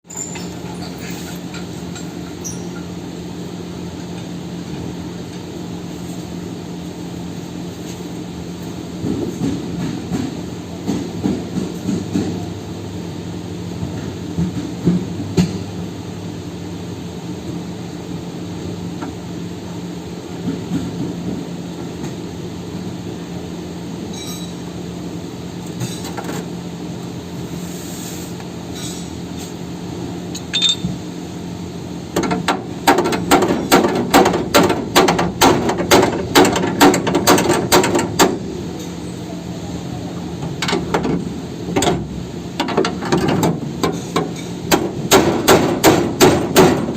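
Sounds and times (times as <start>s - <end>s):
low machine hum: 0.1s - 46.9s.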